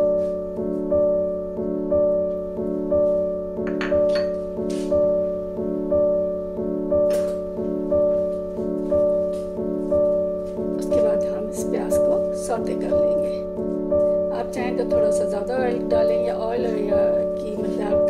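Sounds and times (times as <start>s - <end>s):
background music with sustained tones: 0.0s - 18.0s.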